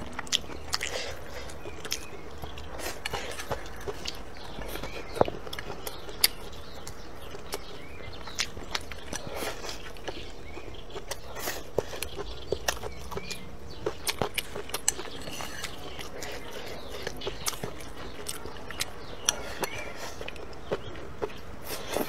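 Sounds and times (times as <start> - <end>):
person chewing bony meat: 0.0 - 22.0.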